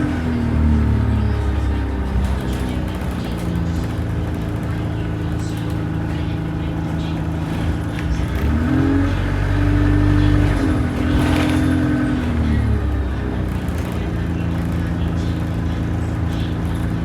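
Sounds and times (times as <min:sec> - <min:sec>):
turbocharged engine revving: 0:00.0 - 0:17.0.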